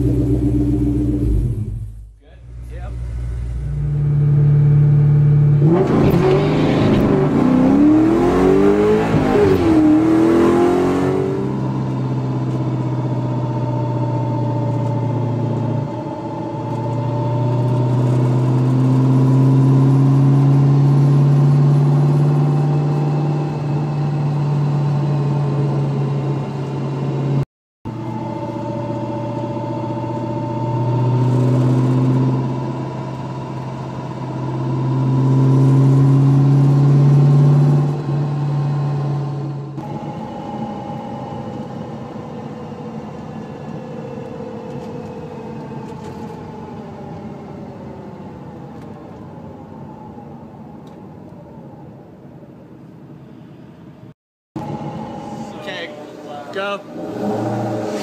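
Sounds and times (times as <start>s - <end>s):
car engine revving: 0.0s - 46.3s, 54.6s - 58.0s
drivetrain whine while driving: 0.0s - 52.2s, 54.6s - 58.0s.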